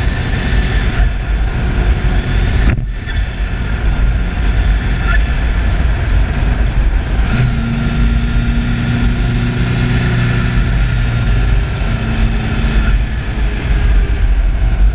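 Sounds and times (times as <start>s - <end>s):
car engine humming: 0.0s - 14.9s
road rumble: 0.0s - 14.9s
wind noise: 0.0s - 14.9s.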